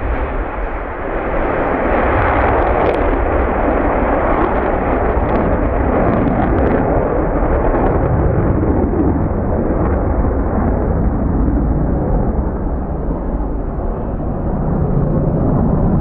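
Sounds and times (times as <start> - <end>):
fighter jet engines roaring: 0.0 - 16.0.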